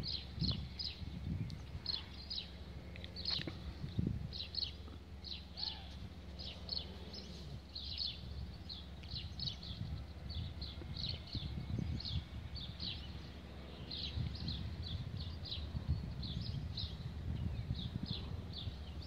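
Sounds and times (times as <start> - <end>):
low rumbling noise: 0.0 - 19.0
small birds chirping: 0.0 - 19.0.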